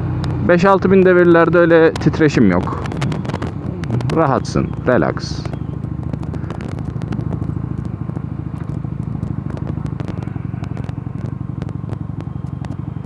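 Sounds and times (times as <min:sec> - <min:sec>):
motorcycle engine cruising: 0:00.0 - 0:13.0
wind on microphone: 0:02.0 - 0:13.0.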